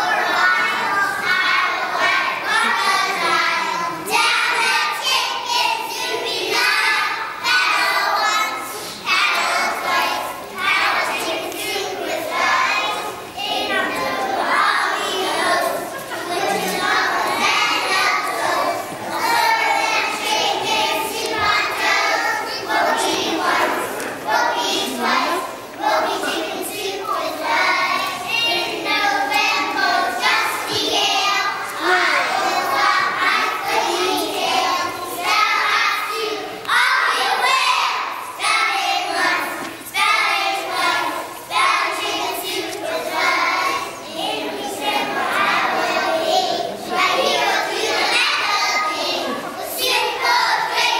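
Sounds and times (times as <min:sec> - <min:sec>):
children singing in unison: 0:00.0 - 0:50.9.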